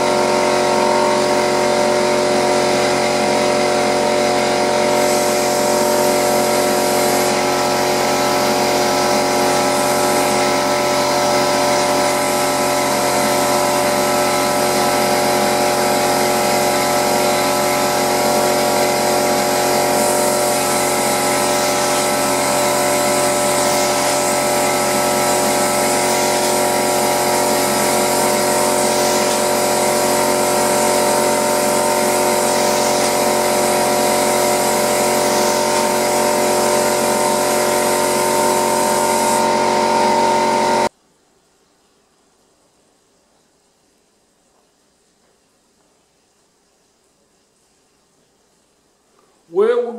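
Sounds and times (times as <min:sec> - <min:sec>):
air compressor humming: 0:00.0 - 0:40.9
spray gun air hiss: 0:00.0 - 0:40.9.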